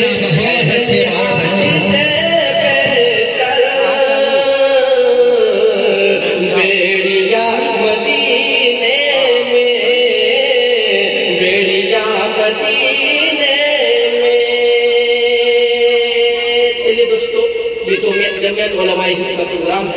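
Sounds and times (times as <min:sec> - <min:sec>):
man chanting into microphone: 0:00.0 - 0:19.9.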